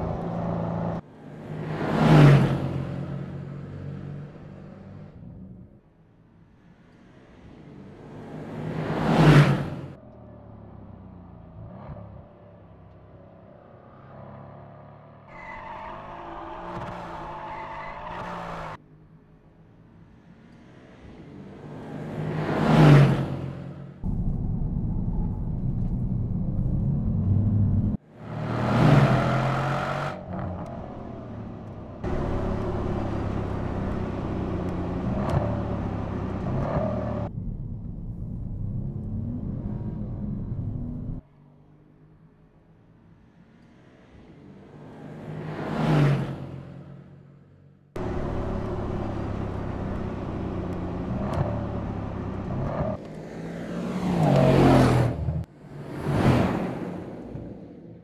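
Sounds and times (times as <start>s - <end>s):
car engine at speed: 0.0s - 58.0s.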